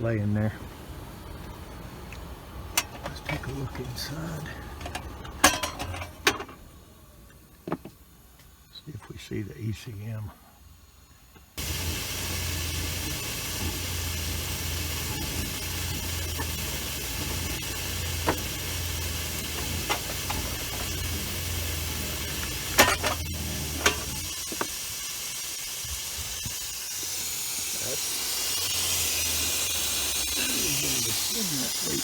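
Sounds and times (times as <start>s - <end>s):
refrigerant hissing: 0.0s - 32.0s.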